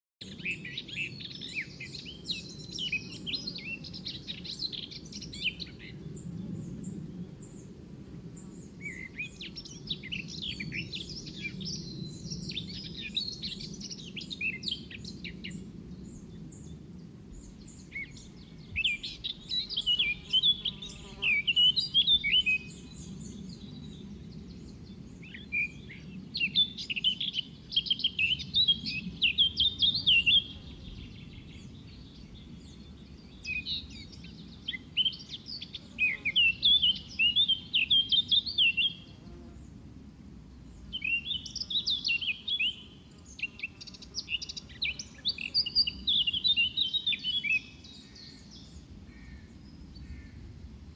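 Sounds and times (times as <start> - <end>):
birds chirping and twittering: 0.2 - 7.8, 8.4 - 39.8, 40.6 - 50.4
steady low background noise: 0.2 - 50.9.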